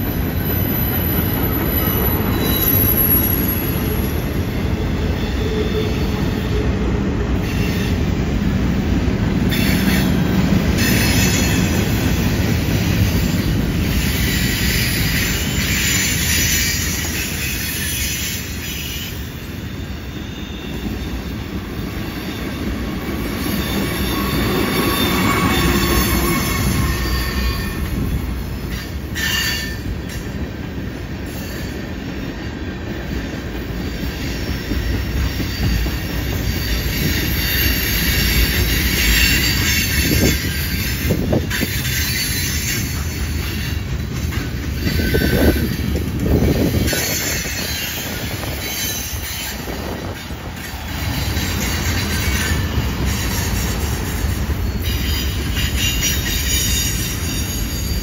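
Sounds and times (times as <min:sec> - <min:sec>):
steel wheels rumbling on rail: 0:00.0 - 0:58.0
wheel flanges squealing: 0:00.1 - 0:06.3, 0:13.2 - 0:30.0, 0:34.0 - 0:58.0.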